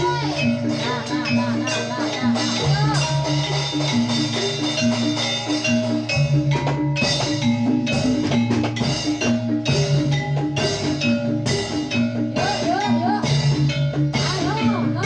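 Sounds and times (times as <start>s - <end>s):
drums and percussion: 0.0s - 15.0s
struck metal mallet instruments: 0.0s - 15.0s.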